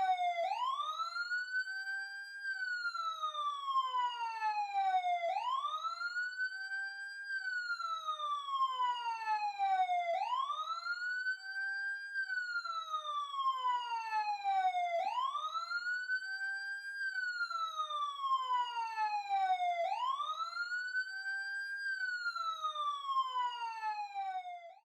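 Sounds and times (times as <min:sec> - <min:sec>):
ambulance siren wailing: 0:00.0 - 0:24.9.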